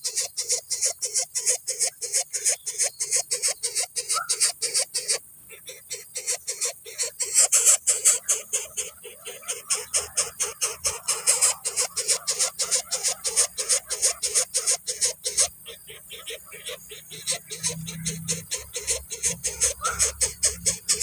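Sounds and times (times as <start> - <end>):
nestlings begging calls: 0.0 - 21.0.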